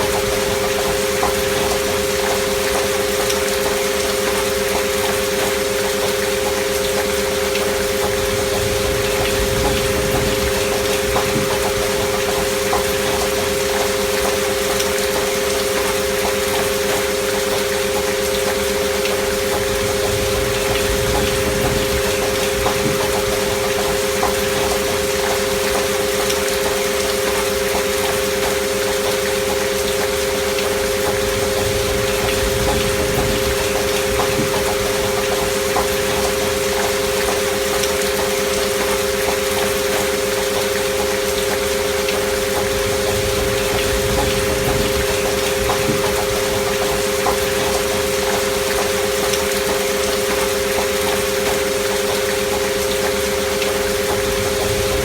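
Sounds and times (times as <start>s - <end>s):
rain drop ticks: 0.0s - 55.0s
steady pure sine tones: 0.0s - 55.0s
steady rain: 0.0s - 55.0s.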